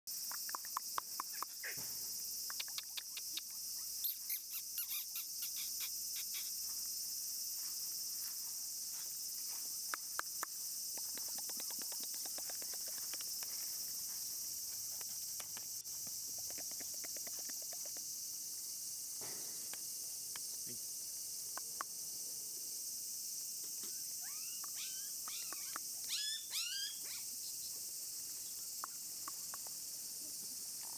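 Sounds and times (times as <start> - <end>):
insect chirps and ticks: 0.1 - 30.9
insects droning: 0.1 - 30.9.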